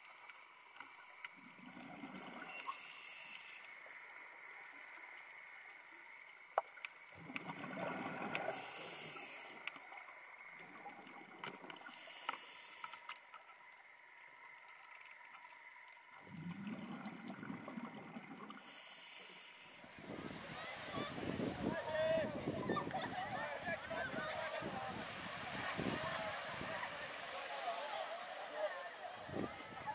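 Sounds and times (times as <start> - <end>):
underwater bubbling: 0.0 - 29.9.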